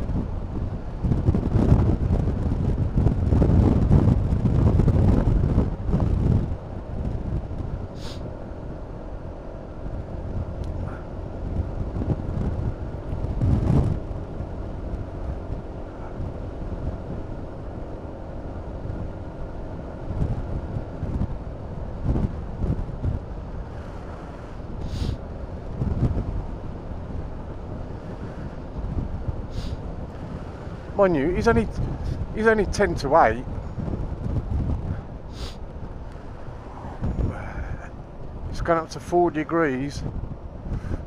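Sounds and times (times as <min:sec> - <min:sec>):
road noise: 0:00.0 - 0:41.0
scooter engine hum: 0:00.0 - 0:41.0
wind rushing on microphone: 0:00.0 - 0:41.0.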